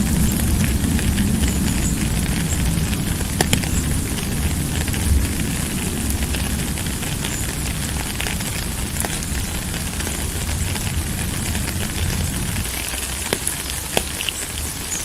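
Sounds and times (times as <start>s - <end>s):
low rumble: 0.0s - 13.3s
heavy rain: 0.0s - 15.0s.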